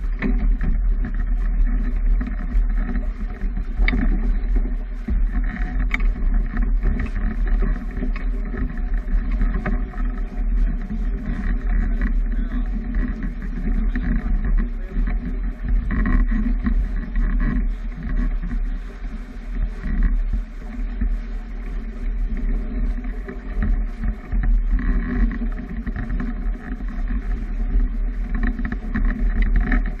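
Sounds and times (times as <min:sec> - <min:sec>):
water rushing along hull: 0:00.0 - 0:30.0
wind on microphone: 0:00.0 - 0:30.0.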